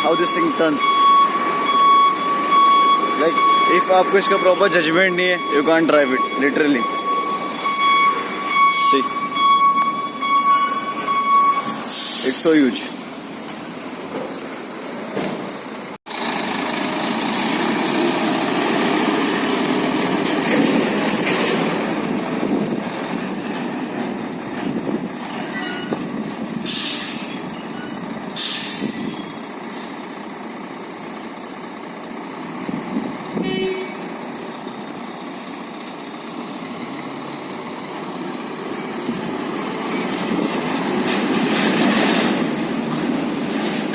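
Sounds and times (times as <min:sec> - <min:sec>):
truck engine and tyres rumbling: 0:00.0 - 0:43.9.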